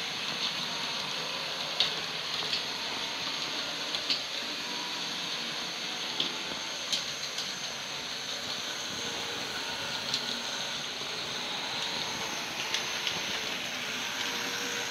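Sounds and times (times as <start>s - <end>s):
model train whirring on track: 0.0s - 14.9s.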